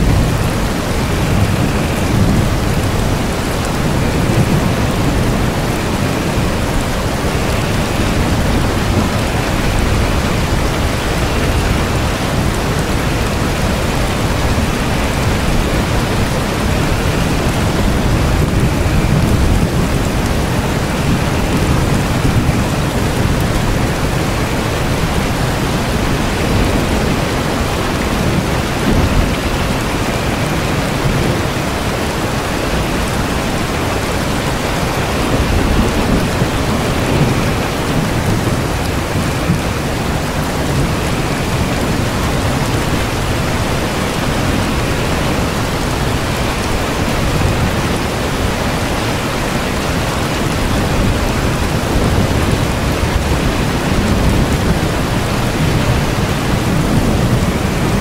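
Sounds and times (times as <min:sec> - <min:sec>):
low rumble of thunder: 0:00.0 - 0:58.0
steady rain hiss: 0:00.0 - 0:58.0.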